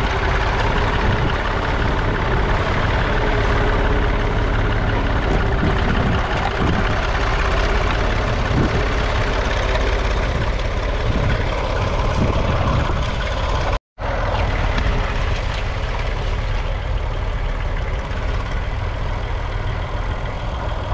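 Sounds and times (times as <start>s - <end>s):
tractor diesel engine under load: 0.0s - 20.9s.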